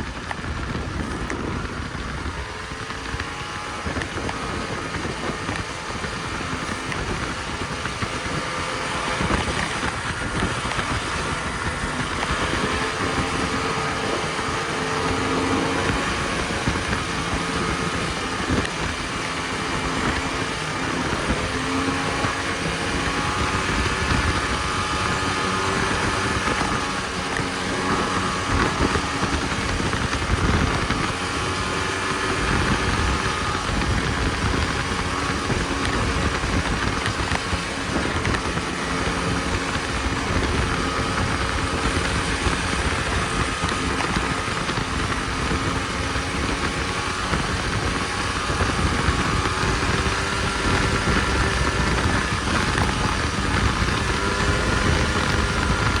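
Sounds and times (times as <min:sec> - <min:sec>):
constant rushing noise: 0:00.0 - 0:56.0
snowmobile engine running: 0:00.0 - 0:56.0.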